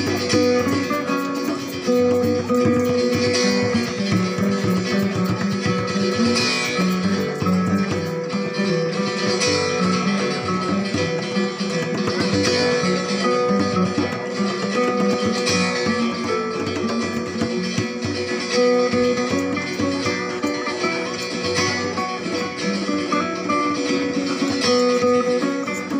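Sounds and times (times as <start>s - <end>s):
acoustic guitar strumming: 0.0s - 25.9s
hand drum: 0.0s - 25.9s
violin: 0.0s - 25.9s.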